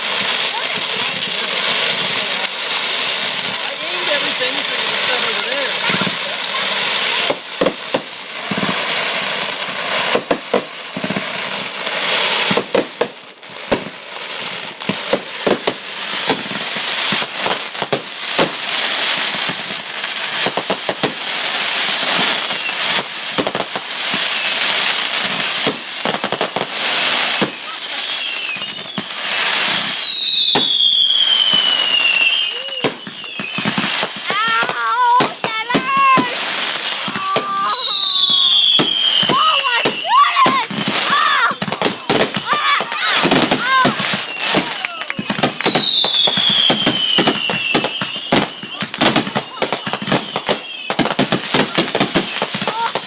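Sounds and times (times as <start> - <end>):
fireworks crackling and banging: 0.0 - 53.0
whistling firework screaming: 0.0 - 53.0.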